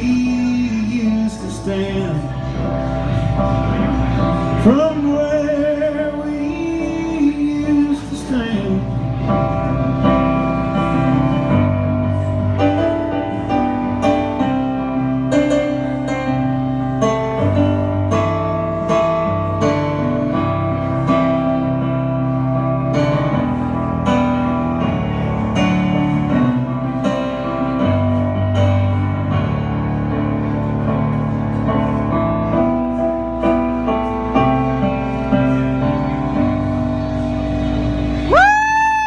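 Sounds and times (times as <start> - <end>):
bass line: 0.0 - 39.0
keyboard chords: 0.0 - 39.0.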